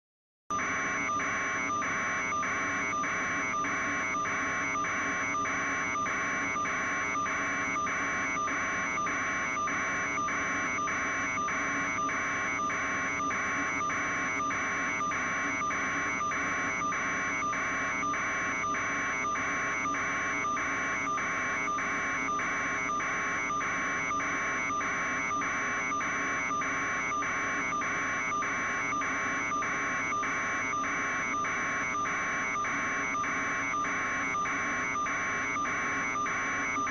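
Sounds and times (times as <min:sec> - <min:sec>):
constant high whine: 0:00.6 - 0:36.9.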